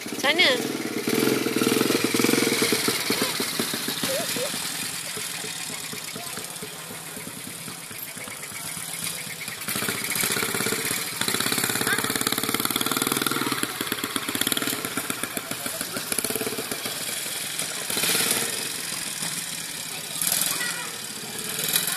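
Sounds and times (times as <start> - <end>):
quad bike engine running: 0.0 - 21.9.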